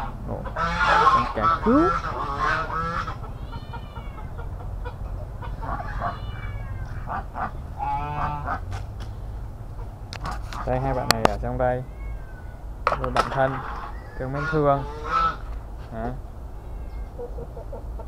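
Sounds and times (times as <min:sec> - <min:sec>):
honking calls: 0:00.0 - 0:18.0
poultry calling: 0:00.0 - 0:18.0
steady low hum: 0:00.0 - 0:18.0.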